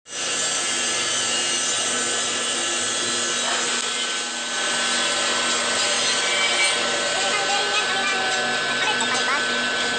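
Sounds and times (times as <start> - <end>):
bandsaw cutting steel bar: 0.1 - 9.9.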